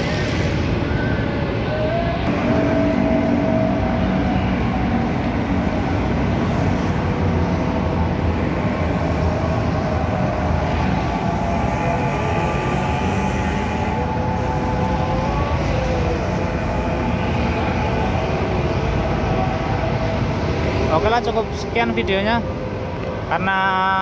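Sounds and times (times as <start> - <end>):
heavy road traffic rumble: 0.0 - 24.0
motorcycles and cars passing: 2.0 - 23.3.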